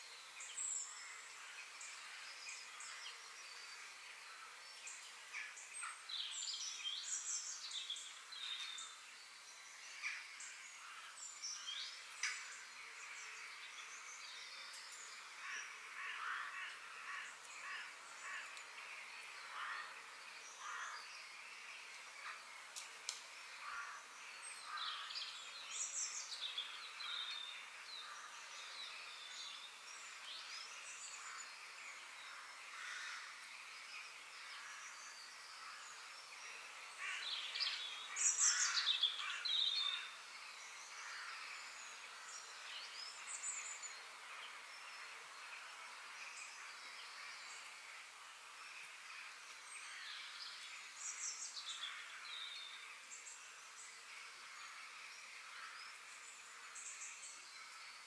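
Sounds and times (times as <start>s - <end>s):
faint background hiss: 0.0s - 58.0s
songbirds chirping and singing: 0.3s - 47.7s.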